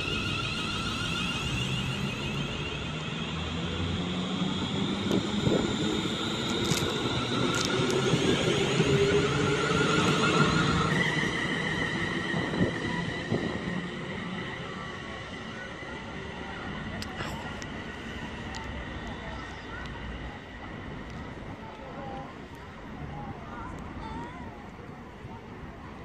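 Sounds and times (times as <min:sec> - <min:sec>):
electric train traction whine: 0:00.0 - 0:22.0.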